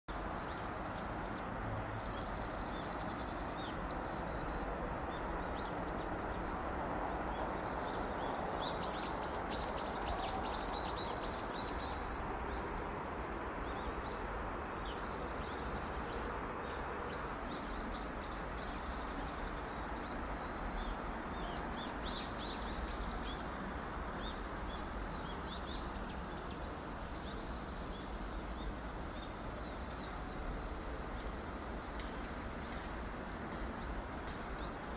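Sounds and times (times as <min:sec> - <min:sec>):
steady background noise: 0:00.1 - 0:34.9.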